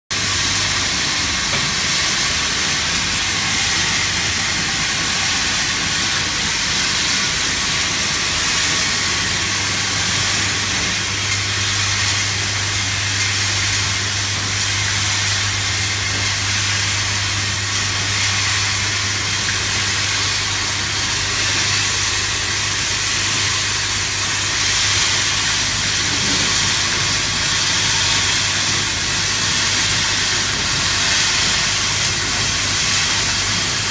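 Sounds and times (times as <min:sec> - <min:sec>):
machinery hiss: 0:00.1 - 0:33.9.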